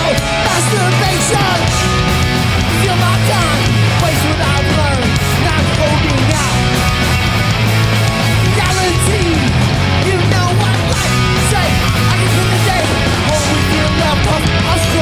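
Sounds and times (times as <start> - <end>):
hardcore band playing live: 0.0 - 15.0.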